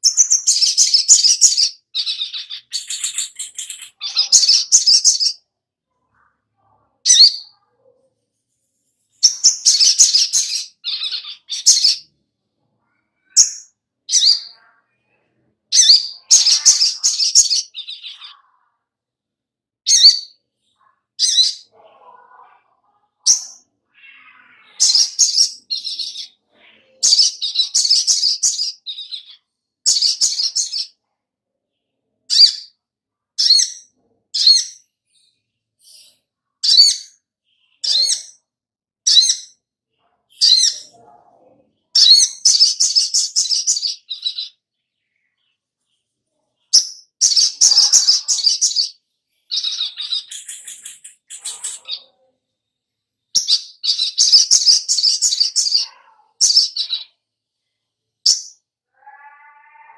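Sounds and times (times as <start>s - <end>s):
bird chirping: 0.0s - 19.0s, 19.9s - 59.9s.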